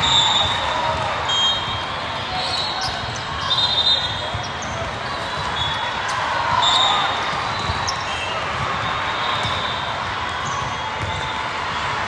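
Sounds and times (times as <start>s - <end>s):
hubbub of many voices: 0.0s - 12.0s.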